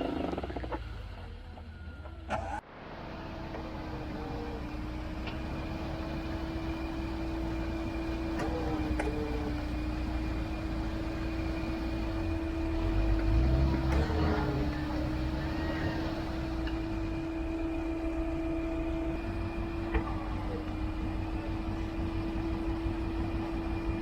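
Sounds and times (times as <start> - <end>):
electric winch motor whining: 0.0 - 24.0
vehicle engine running: 0.0 - 24.0.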